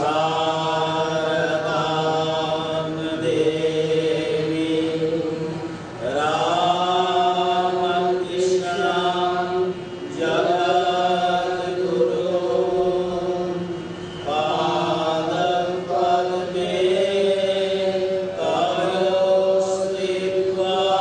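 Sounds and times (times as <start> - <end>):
harmonium drone: 0.0 - 21.0
men chanting devotional song: 0.0 - 21.0.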